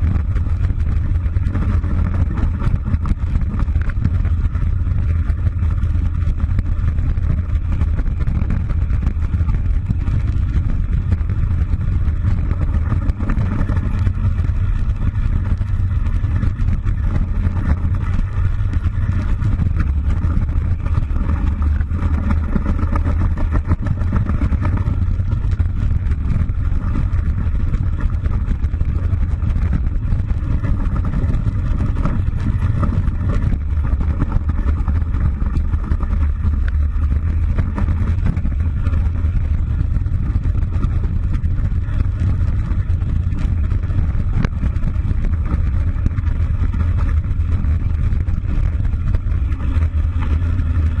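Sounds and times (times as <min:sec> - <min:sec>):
noise haze: 0:00.0 - 0:51.0
wind buffeting microphone: 0:00.0 - 0:51.0.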